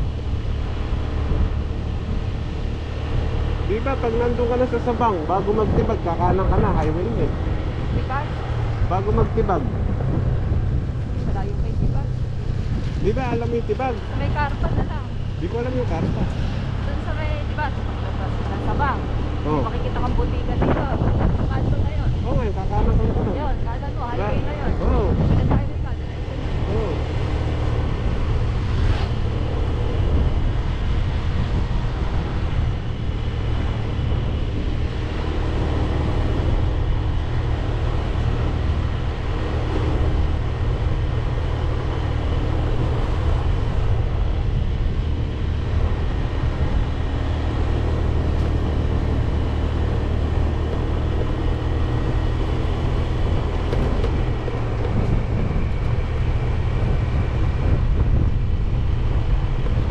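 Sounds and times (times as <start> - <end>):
motorcycle engine rumble: 0.0 - 59.9
wind and road noise: 0.0 - 59.9.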